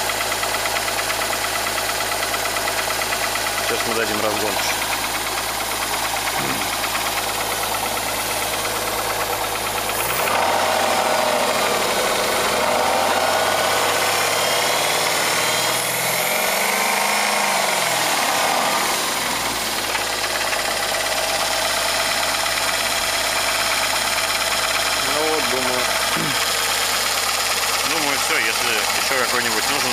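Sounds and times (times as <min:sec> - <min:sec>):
car engine idling and revving: 0:00.0 - 0:29.9
engine knocking: 0:00.0 - 0:29.9.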